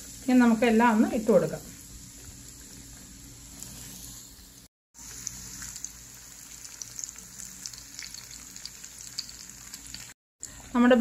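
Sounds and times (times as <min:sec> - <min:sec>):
deep-frying oil sizzling: 0:00.0 - 0:10.6.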